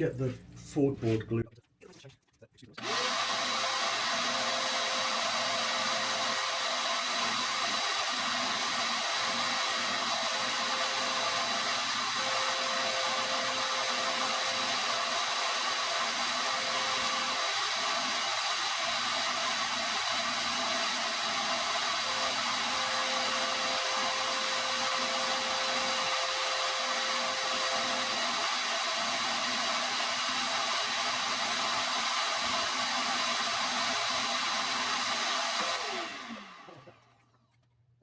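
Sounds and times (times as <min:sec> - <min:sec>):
dust cleaning machine running: 0:02.8 - 0:37.0.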